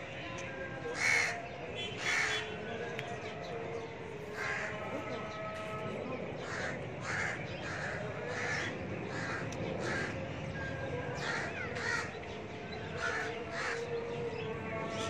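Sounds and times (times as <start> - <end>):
harsh bird calls: 0.3 - 15.0.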